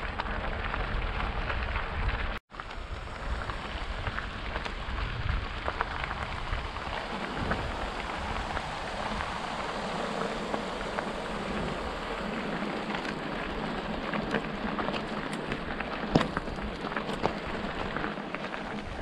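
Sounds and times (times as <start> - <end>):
bike tyres crackling on gravel: 0.0 - 19.0.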